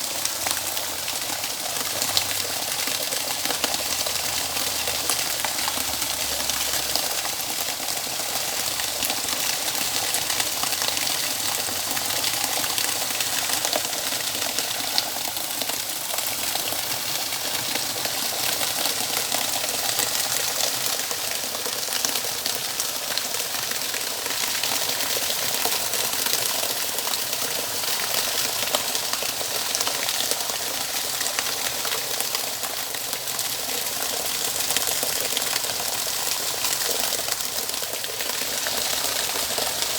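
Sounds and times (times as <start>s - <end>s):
running water gushing: 0.0s - 39.9s.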